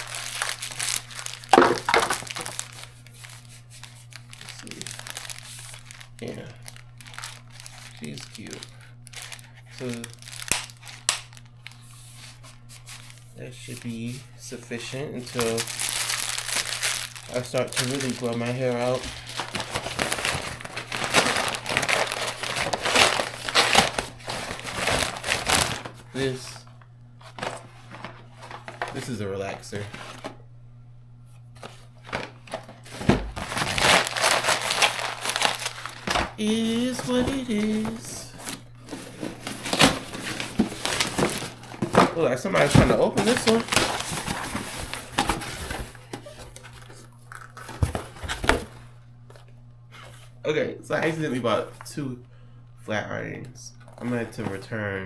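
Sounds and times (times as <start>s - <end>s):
packaging crinkling and rustling: 0.0s - 14.1s, 14.8s - 26.6s, 27.2s - 30.4s, 31.6s - 50.4s.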